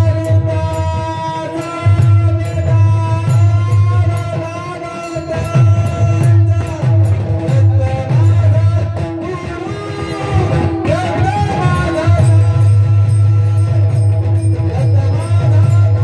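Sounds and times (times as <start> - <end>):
plucked string instrument: 0.0 - 16.0.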